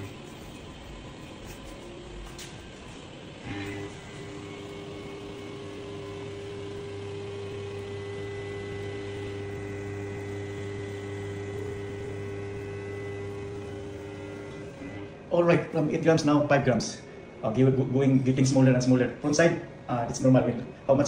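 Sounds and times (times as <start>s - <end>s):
balancing machine hum: 0.0s - 21.0s
faint high whine: 0.0s - 21.0s.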